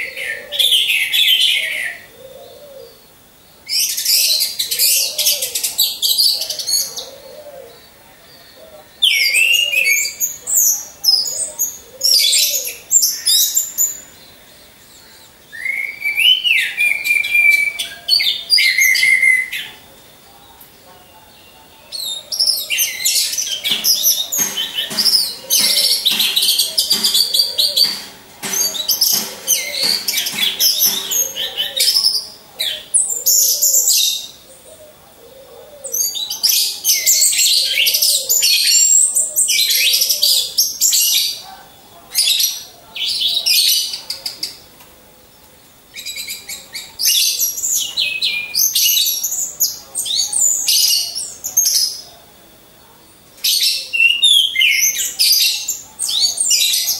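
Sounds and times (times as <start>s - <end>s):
thrushes singing high chirps: 0.0s - 56.9s.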